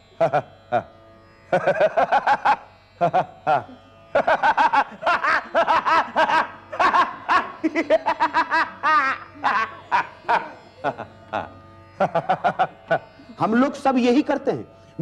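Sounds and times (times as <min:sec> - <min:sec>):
man laughing melodically: 0:00.0 - 0:13.4.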